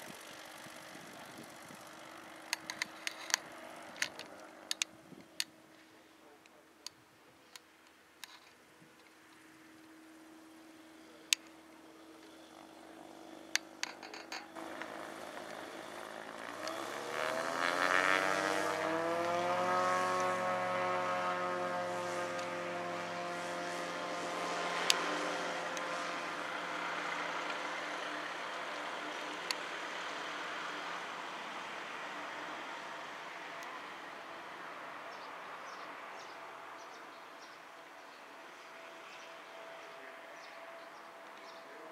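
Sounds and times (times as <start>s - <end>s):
light aircraft engine and propeller: 0.0s - 7.4s, 8.2s - 41.9s.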